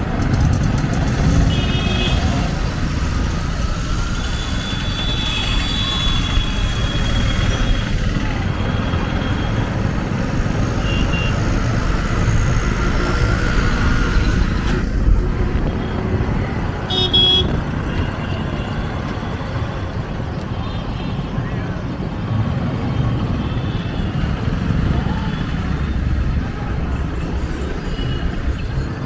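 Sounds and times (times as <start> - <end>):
low rumble of engines: 0.0 - 29.0
road noise: 0.0 - 29.0.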